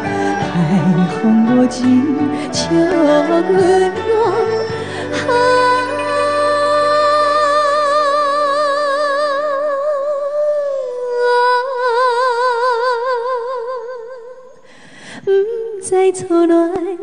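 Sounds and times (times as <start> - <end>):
woman singing with vibrato: 0.0 - 14.6, 15.2 - 17.0.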